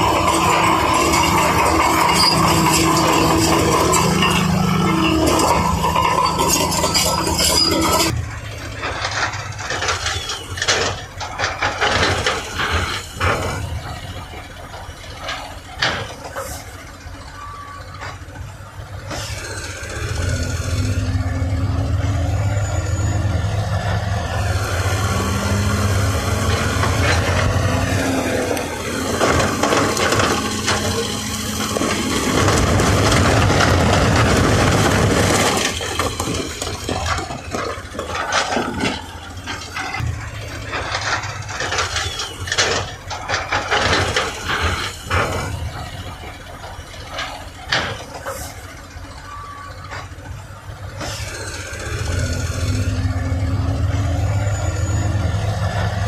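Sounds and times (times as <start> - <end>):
low diesel engine drone: 0.0 - 56.0
machinery knocks and clanks: 0.0 - 56.0.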